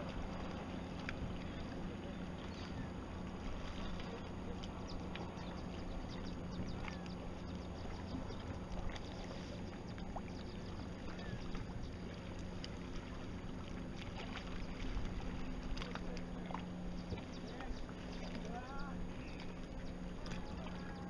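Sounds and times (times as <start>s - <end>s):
water splashing against boat bow: 0.0s - 21.0s.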